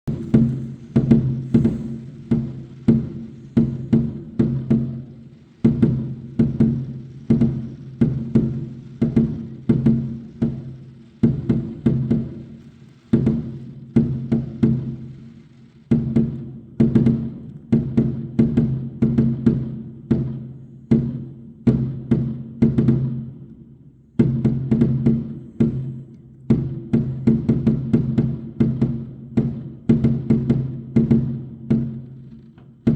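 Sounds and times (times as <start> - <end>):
sharp drum hits: 0.1 - 23.5, 24.2 - 32.9.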